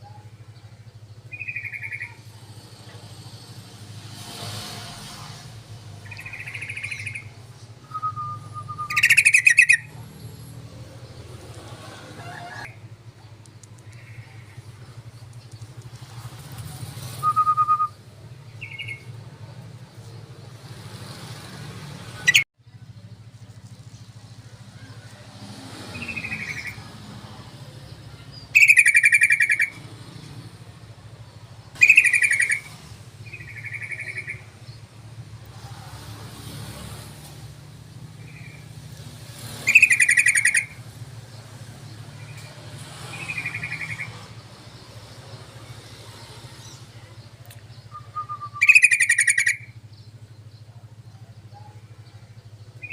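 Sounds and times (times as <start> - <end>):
bulbul chattering song: 0.0 - 3.6, 5.8 - 11.7, 12.3 - 21.3, 25.8 - 35.6, 37.2 - 52.9.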